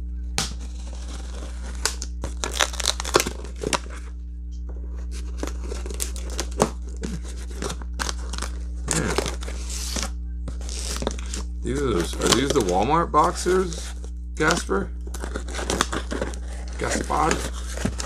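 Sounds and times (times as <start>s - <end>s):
low hum: 0.0s - 18.0s
packaging ripping and crinkling: 0.4s - 4.1s, 5.1s - 18.0s.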